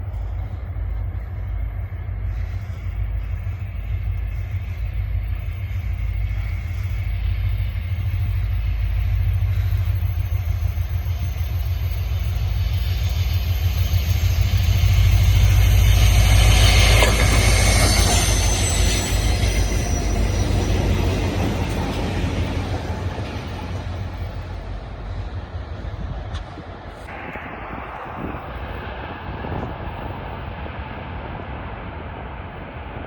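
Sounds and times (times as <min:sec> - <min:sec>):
hissing wheel and rail noise: 0:00.0 - 0:33.0
locomotive engine rumble: 0:00.0 - 0:33.0.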